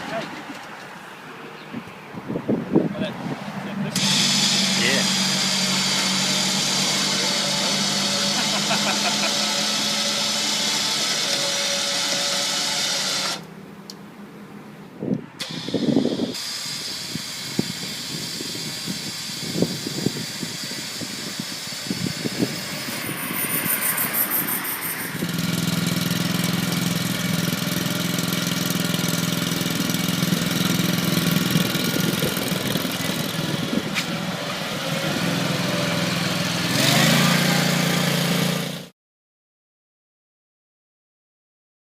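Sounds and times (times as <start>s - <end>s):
engine humming: 3.2s - 16.4s, 17.1s - 38.9s.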